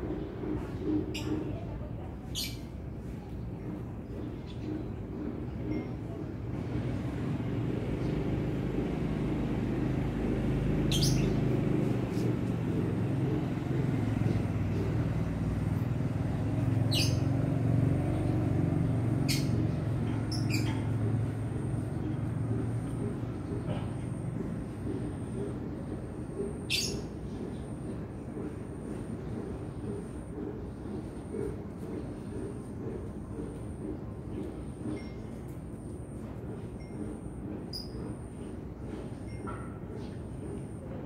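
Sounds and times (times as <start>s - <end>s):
low engine-like rumble: 0.0s - 41.0s.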